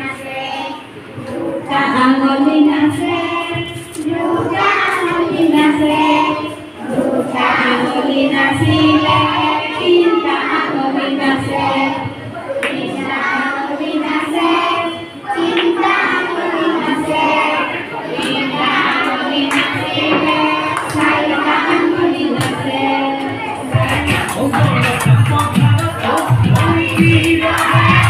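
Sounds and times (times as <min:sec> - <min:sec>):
children singing in chorus: 0:00.0 - 0:25.0, 0:25.9 - 0:28.0.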